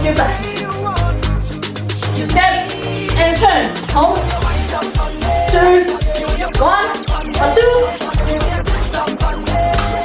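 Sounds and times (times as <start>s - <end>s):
pop song with fast drum beat: 0.0s - 10.0s.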